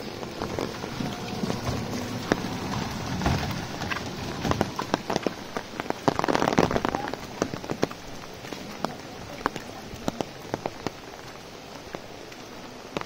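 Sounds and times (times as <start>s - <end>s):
rain falling on brick road: 0.0s - 13.0s
sharp raindrop hits: 0.0s - 13.0s.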